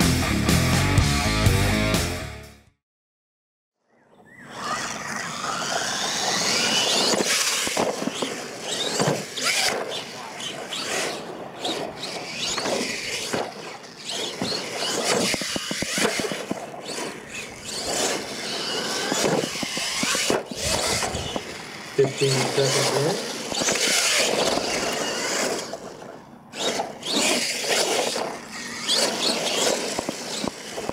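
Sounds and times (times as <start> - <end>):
toy truck motor whining: 4.3 - 30.9.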